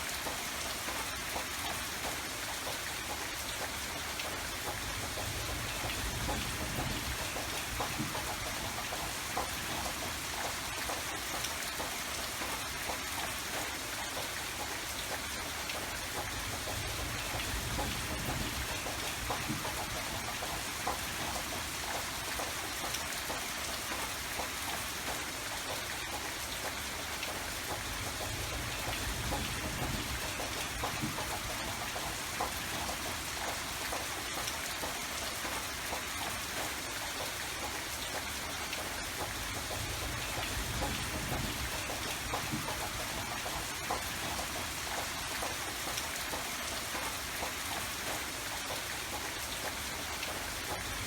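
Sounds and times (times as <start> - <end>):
rain pattering: 0.0 - 51.0.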